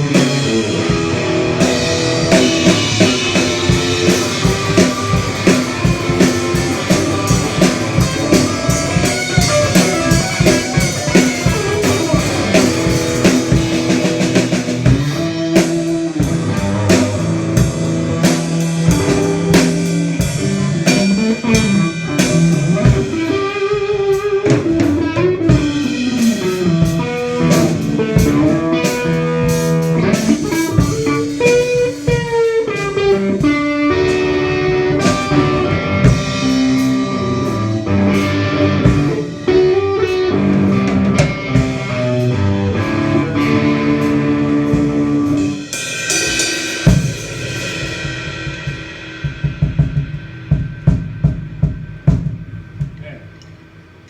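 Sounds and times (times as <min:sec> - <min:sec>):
bass guitar: 0:00.0 - 0:53.6
electric guitar: 0:00.0 - 0:53.8
drum kit: 0:00.0 - 0:54.0.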